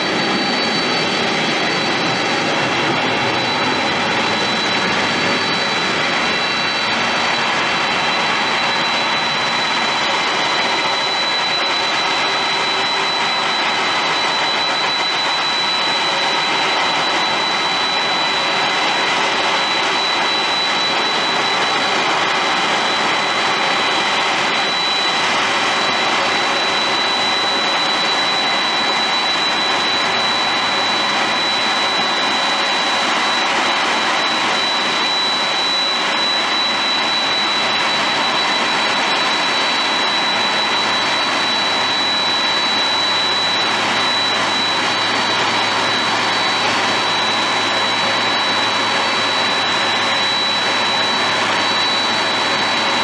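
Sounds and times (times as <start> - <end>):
jet engines rushing and whining: 0.0 - 53.0.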